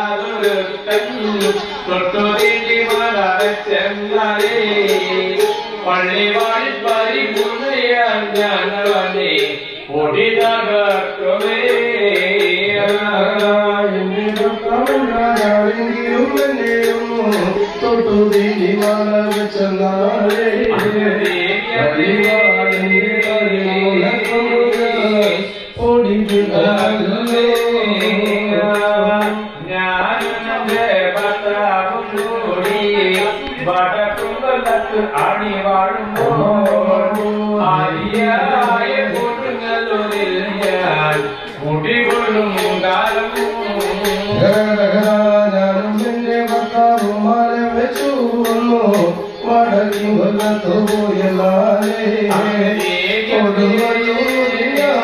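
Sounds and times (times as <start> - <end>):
men chanting song: 0.0 - 55.0
struck string instrument beat: 0.0 - 55.0.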